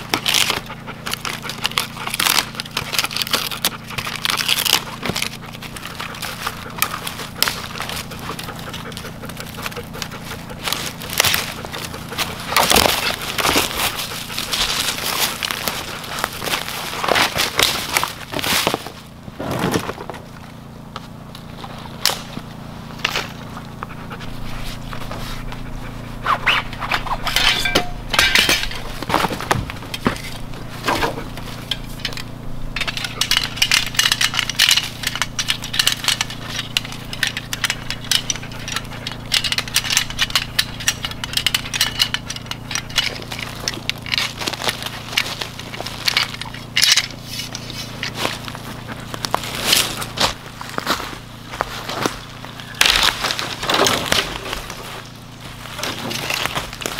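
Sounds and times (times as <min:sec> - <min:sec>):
sticks cracking and snapping: 0:00.0 - 0:19.0, 0:20.9 - 0:24.0, 0:26.4 - 0:56.9
rapid scraping and clicking: 0:00.0 - 0:20.3, 0:23.0 - 0:56.9
boots crunching through dry leaves: 0:00.0 - 0:39.7, 0:40.4 - 0:56.9
low steady hum: 0:00.0 - 0:56.9.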